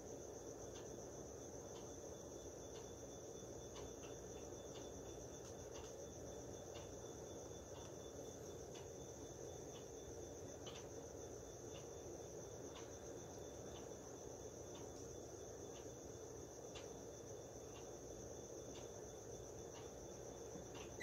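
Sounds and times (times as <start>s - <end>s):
cricket chirp: 0.0s - 21.0s
crickets trilling: 0.0s - 21.0s.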